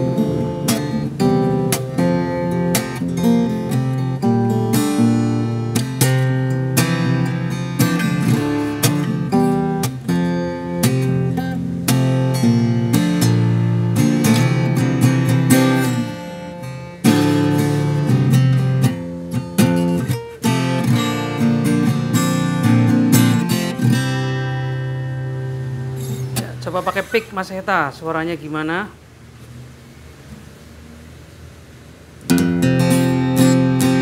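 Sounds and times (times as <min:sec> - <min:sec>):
fingerstyle acoustic guitar: 0:00.0 - 0:27.5, 0:32.2 - 0:34.0.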